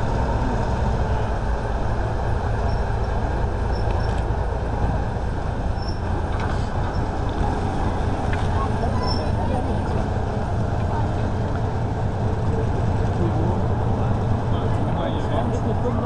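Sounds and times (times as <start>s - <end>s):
railway turntable rumbling: 0.0s - 16.0s.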